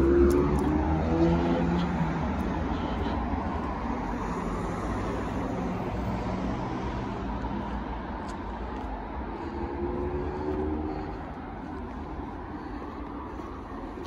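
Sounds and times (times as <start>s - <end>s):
traffic hum on busy road: 0.0s - 14.0s.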